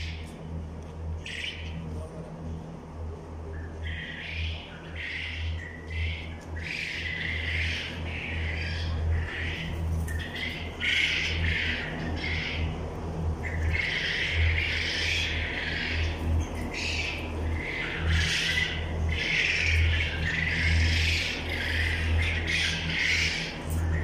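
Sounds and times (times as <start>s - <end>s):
quail calling: 0.0s - 0.3s, 1.2s - 1.8s, 3.7s - 12.8s, 13.4s - 24.0s
steady low hum: 0.0s - 24.0s.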